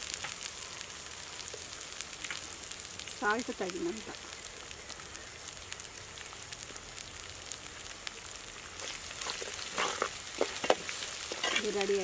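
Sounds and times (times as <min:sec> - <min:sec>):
gravy simmering with sizzling hiss: 0:00.0 - 0:12.0
small pops and crackles: 0:00.0 - 0:12.0.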